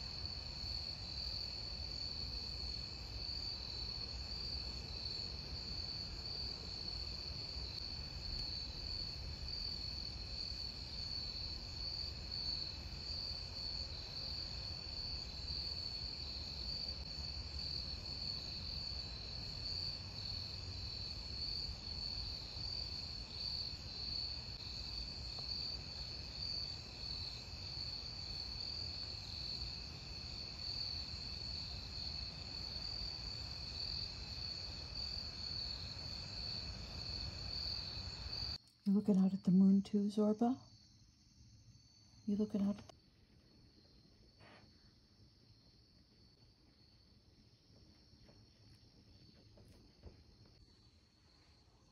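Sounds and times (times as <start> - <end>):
night insects trilling: 0.0 - 47.6.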